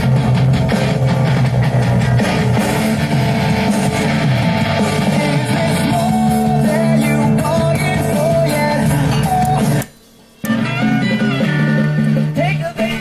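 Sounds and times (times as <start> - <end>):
rock music through speakers: 0.0 - 13.0.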